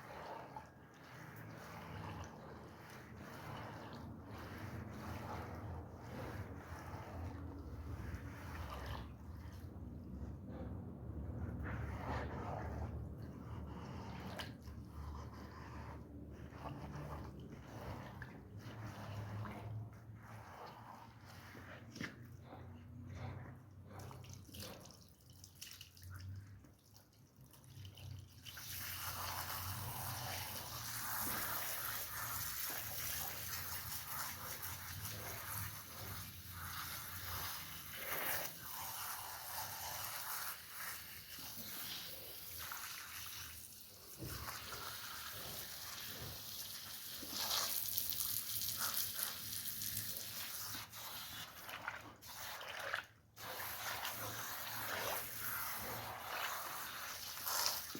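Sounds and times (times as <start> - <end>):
water splashing onto rug: 0.0 - 10.7, 11.3 - 57.9.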